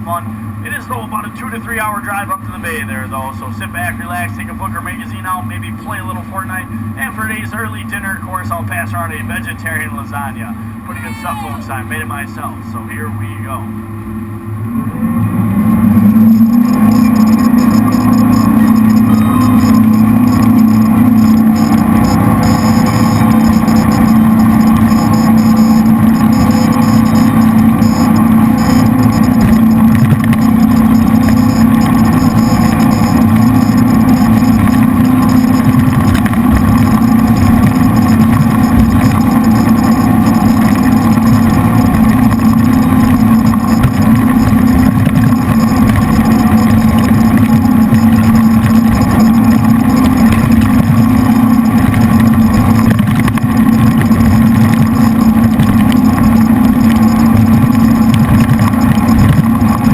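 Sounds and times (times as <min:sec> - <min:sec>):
jet boat engines running: 0:00.0 - 0:59.9.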